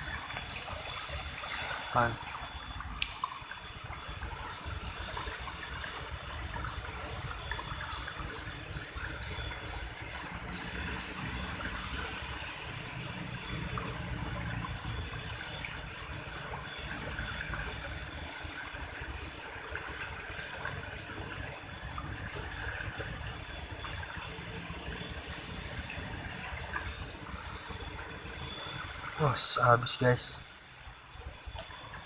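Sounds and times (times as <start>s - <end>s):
river water running: 0.0s - 32.0s.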